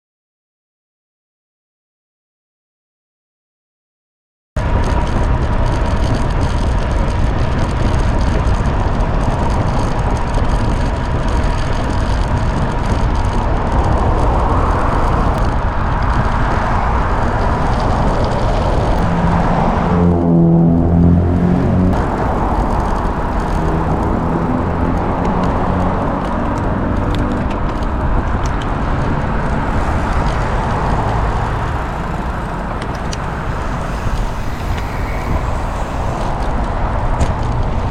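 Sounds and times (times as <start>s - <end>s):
passing vehicle engine: 4.6s - 37.9s
wind and road rumble: 4.6s - 37.9s.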